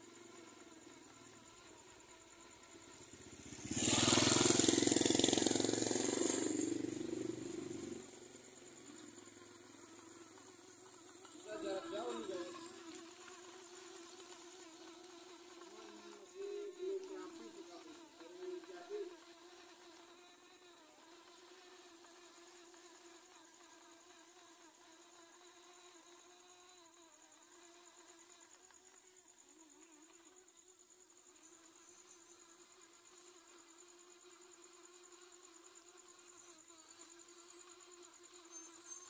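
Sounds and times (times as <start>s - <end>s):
night insects chirping: 0.0s - 39.0s
small electric motors buzzing: 0.0s - 39.0s.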